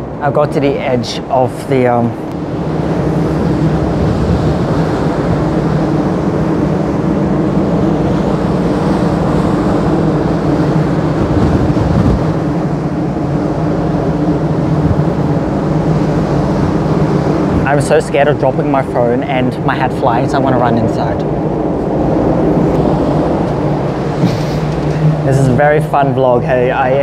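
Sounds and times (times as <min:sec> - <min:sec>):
low ship hum: 0:00.0 - 0:27.0
wind buffeting microphone: 0:00.0 - 0:27.0.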